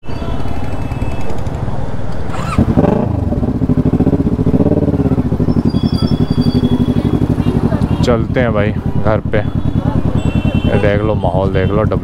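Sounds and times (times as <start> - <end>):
motorcycle engine running: 2.3 - 12.0.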